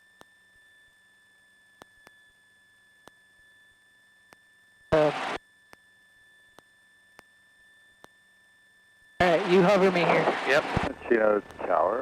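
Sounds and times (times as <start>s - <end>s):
faint electronic whine: 0.0s - 12.0s.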